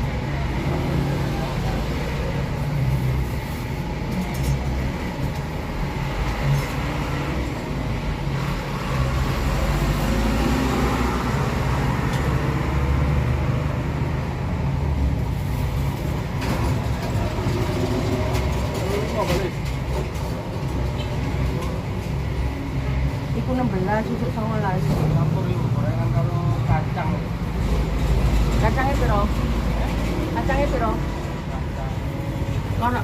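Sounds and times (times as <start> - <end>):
road vehicles rumbling: 0.0 - 33.0.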